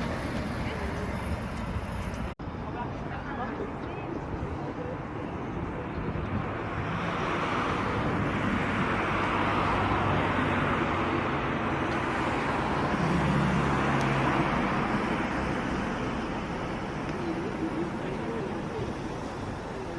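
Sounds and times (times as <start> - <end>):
passing cars tyre and engine noise: 0.0 - 19.9.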